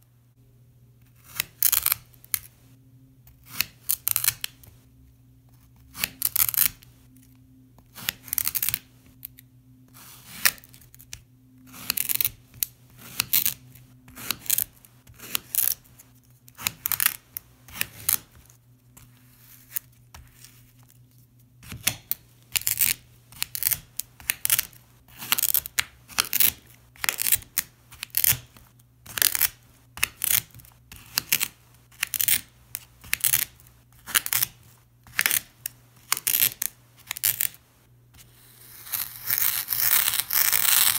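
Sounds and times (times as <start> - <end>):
faint low hum: 0.0 - 40.8.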